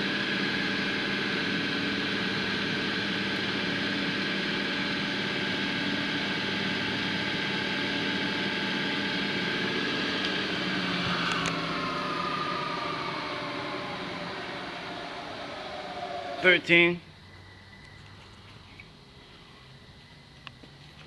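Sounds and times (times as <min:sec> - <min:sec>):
milling machine motor running: 0:00.0 - 0:17.0
spindle whine slowing down: 0:00.0 - 0:20.8.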